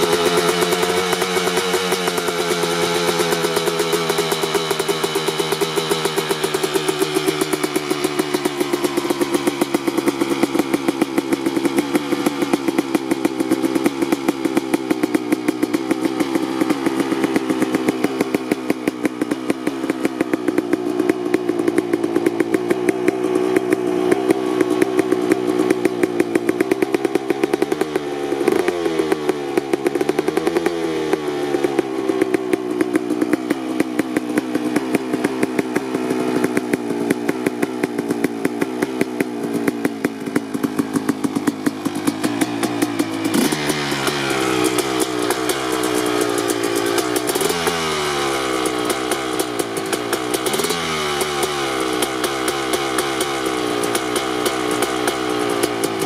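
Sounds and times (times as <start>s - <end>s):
engine revving: 0.0s - 56.0s
two-stroke engine idling: 0.0s - 56.0s.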